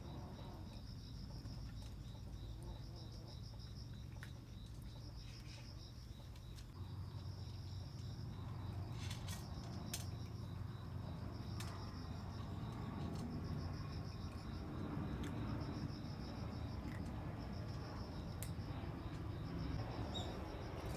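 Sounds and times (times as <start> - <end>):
insects chirping trill: 0.0 - 20.9
low background hum: 0.0 - 20.9.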